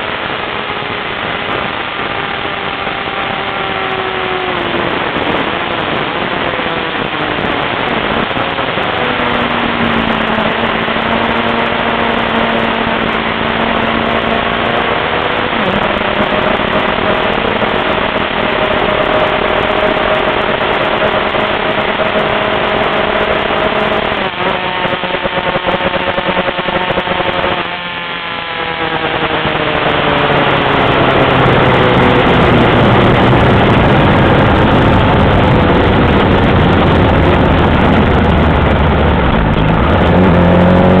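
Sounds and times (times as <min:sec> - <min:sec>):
car engine revving: 0:00.0 - 0:41.0
road noise: 0:00.0 - 0:41.0.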